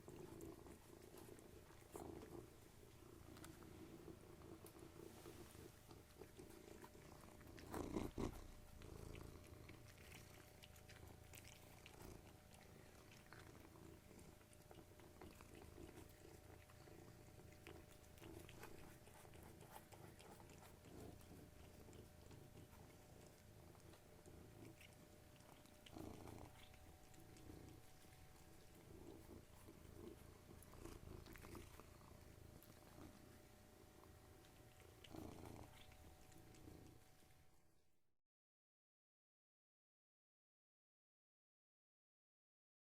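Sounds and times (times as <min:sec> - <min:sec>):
cat purring: 0:00.0 - 0:37.6.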